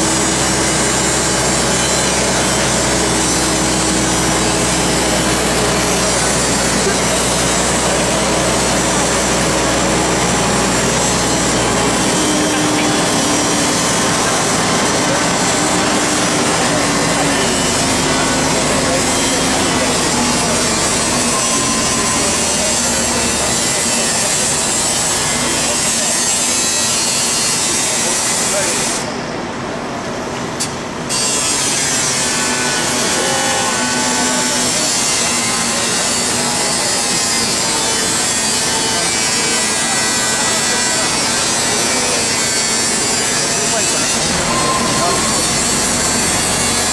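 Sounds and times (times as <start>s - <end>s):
angle grinder cutting metal: 0.0s - 29.1s, 31.1s - 46.9s.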